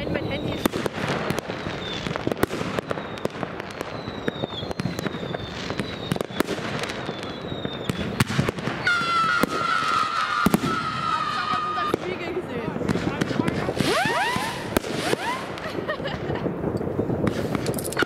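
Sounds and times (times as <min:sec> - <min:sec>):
fireworks bangs and crackles: 0:00.0 - 0:18.0
high firework whistles: 0:00.0 - 0:18.0.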